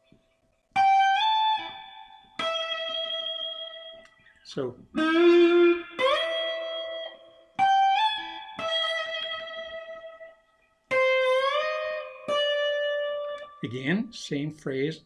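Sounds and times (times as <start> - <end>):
slide guitar notes: 0.8 - 15.0.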